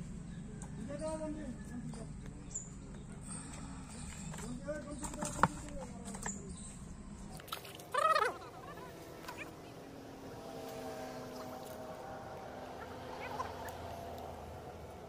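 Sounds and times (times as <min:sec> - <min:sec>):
faint background calls: 0:00.0 - 0:15.0.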